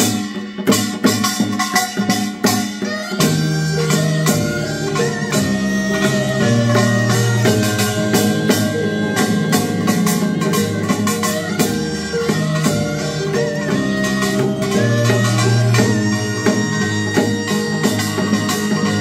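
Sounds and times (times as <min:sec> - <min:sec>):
drum and percussion beat: 0:00.0 - 0:19.0
traditional band melody: 0:00.0 - 0:19.0.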